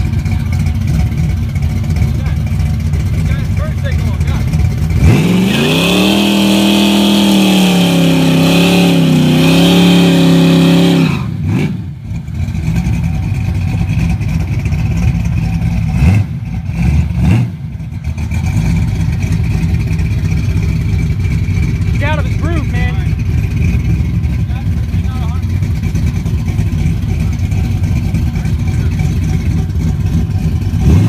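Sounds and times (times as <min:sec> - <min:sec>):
car engine revving: 0:00.0 - 0:31.0
car engine throttle blips: 0:00.0 - 0:31.0.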